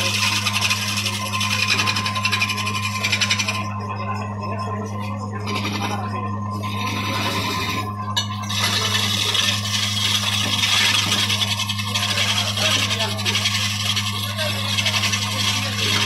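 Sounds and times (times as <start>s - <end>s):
tool scraping wood: 0.0s - 16.0s
woodworking machine humming: 0.0s - 16.0s.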